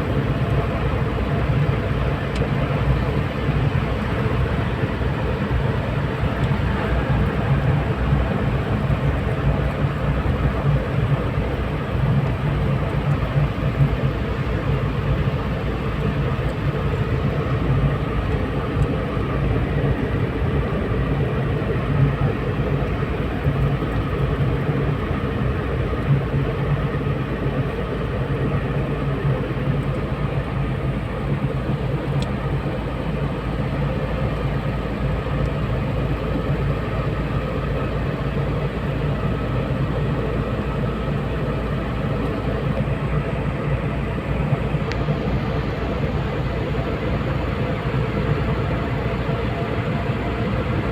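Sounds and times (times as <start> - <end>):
car road noise: 0.0 - 50.9.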